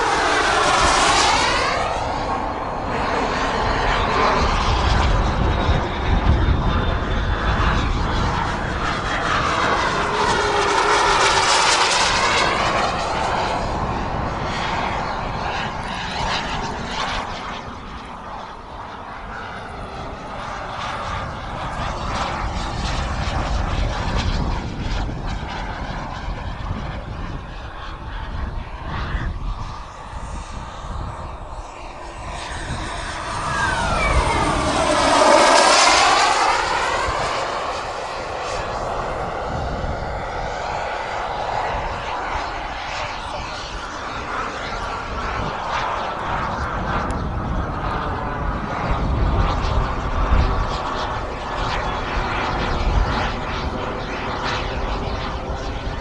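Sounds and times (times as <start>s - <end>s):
model jet turbine whine: 0.0s - 56.0s.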